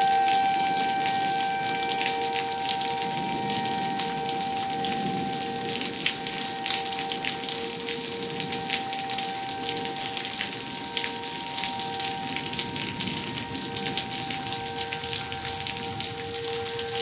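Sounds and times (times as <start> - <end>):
steady rain falling: 0.0 - 17.0
tornado warning sirens: 0.0 - 17.0.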